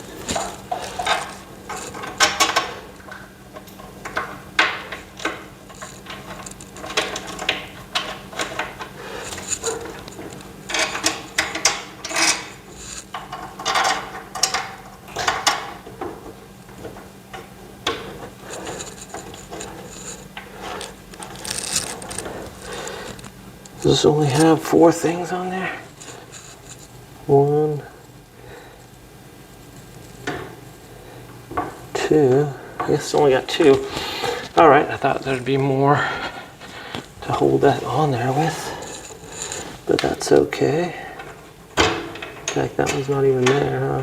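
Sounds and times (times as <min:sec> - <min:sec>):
scraping and rubbing of furniture parts: 0:00.0 - 0:27.0, 0:29.5 - 0:44.0
faint steady hum: 0:00.0 - 0:44.0.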